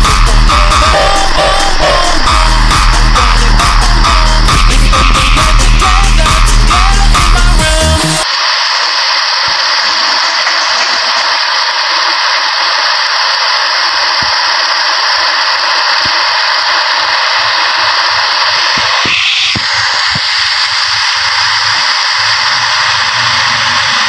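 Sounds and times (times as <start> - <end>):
loud steady hiss: 0.0 - 24.0.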